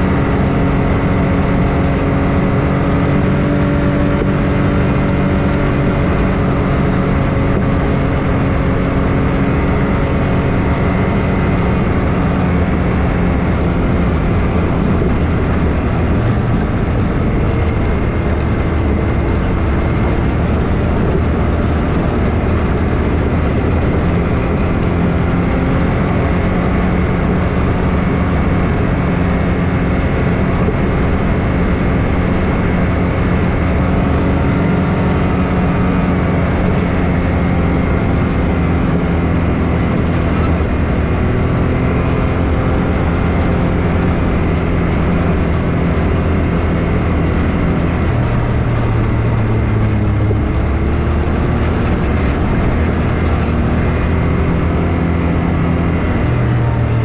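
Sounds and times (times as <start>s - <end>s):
engine droning: 0.0s - 57.0s.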